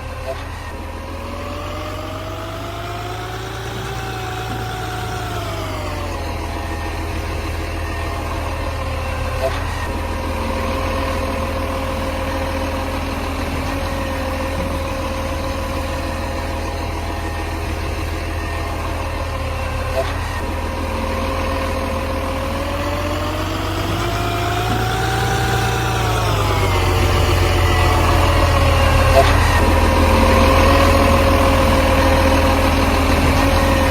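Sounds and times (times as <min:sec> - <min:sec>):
garbage truck diesel engine: 0:00.0 - 0:33.9.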